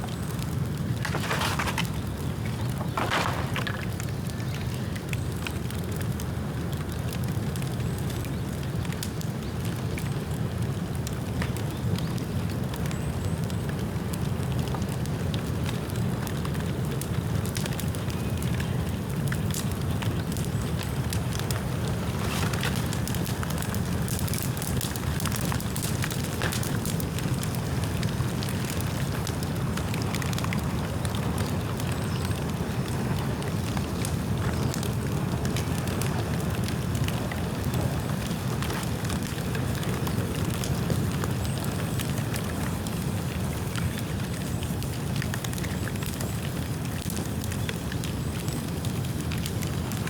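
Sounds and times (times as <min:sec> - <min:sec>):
bonfire flames rushing: 0:00.0 - 0:50.0
fire crackling and popping: 0:00.0 - 0:50.0.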